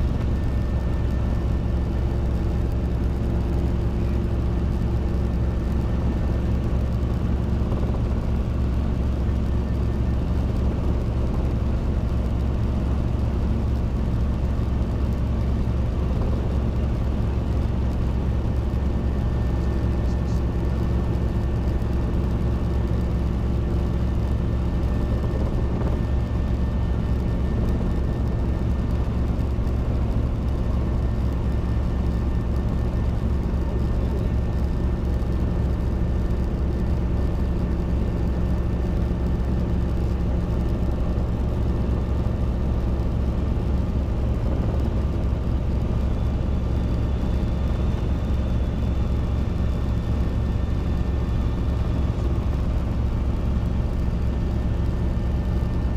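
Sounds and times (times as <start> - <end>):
helicopter engine and rotors drone: 0.0 - 55.9.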